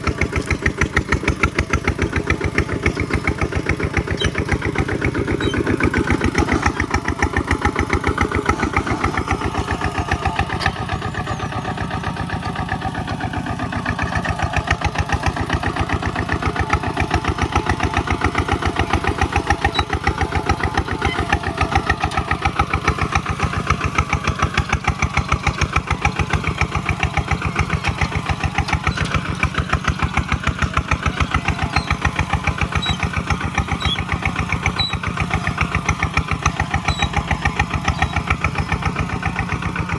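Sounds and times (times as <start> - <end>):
single-cylinder diesel engine running: 0.0 - 39.9.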